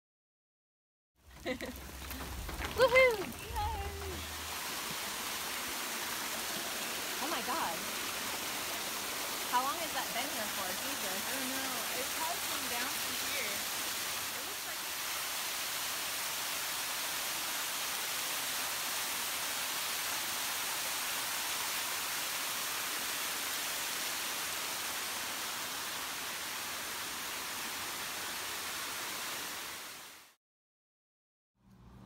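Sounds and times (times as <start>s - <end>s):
waterfall rushing over rocks: 1.4s - 30.4s.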